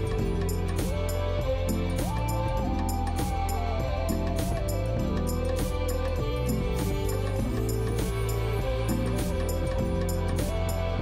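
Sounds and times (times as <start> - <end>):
background music with sliding melody: 0.0 - 11.0.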